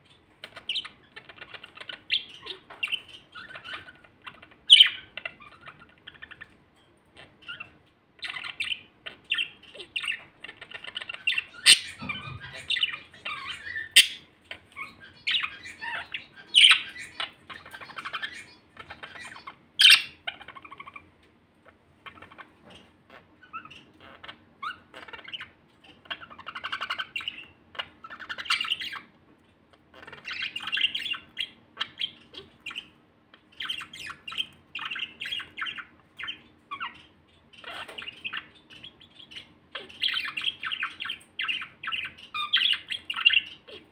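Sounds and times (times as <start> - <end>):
budgerigars warbling: 0.4 - 6.6, 7.2 - 21.0, 22.0 - 29.1, 29.9 - 43.9.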